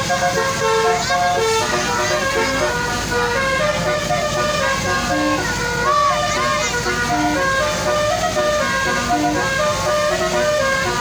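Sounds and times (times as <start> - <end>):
multi-tone horn playing a tune: 0.0 - 11.0.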